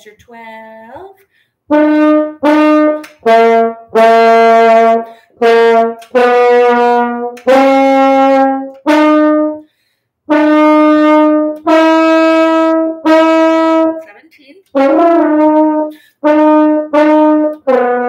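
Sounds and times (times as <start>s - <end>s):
french horn melody: 1.7s - 14.0s, 14.7s - 18.0s.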